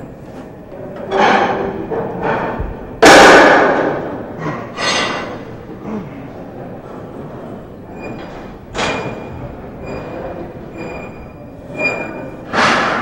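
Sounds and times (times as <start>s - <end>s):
gym background din: 0.6s - 13.0s.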